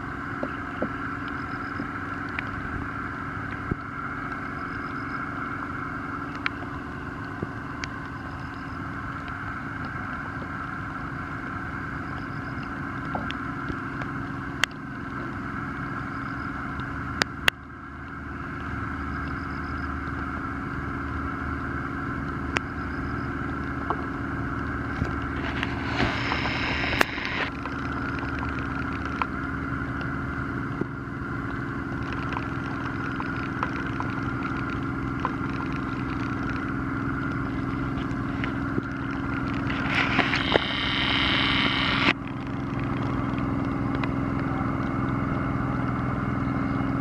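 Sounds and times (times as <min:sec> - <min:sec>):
motorboat engine running: 0:00.0 - 0:47.0.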